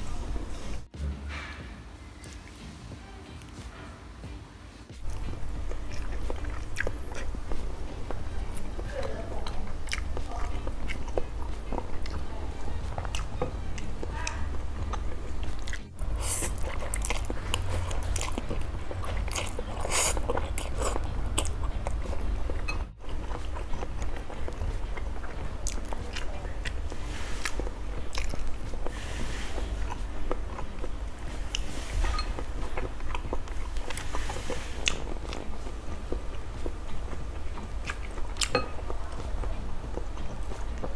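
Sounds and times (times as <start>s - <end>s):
chewing and slurping noodles: 5.0s - 40.9s.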